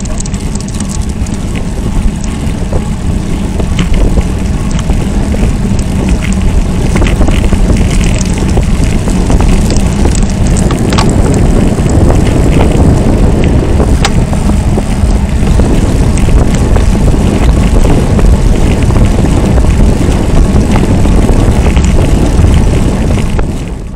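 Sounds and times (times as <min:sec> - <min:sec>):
tyre road noise: 0:00.0 - 0:23.9
wind buffeting microphone: 0:00.0 - 0:23.9.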